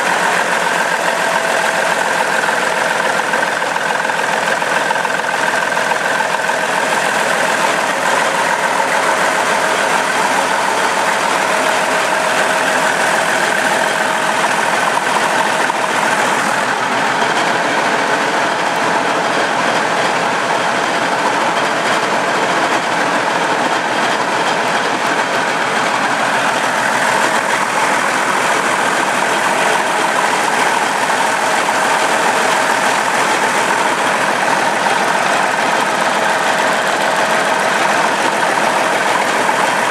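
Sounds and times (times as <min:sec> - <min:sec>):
diesel engine mechanical clatter: 0:00.0 - 0:39.9.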